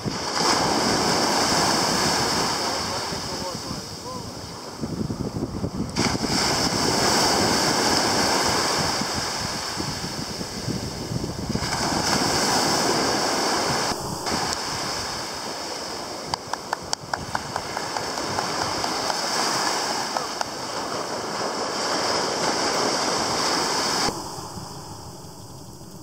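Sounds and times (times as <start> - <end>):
sea surf breaking: 0.0 - 26.0.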